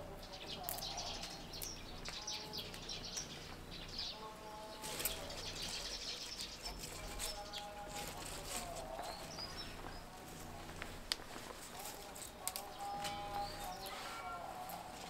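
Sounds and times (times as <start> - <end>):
faint low hum: 0.0 - 15.0
small birds chirping: 0.0 - 15.0.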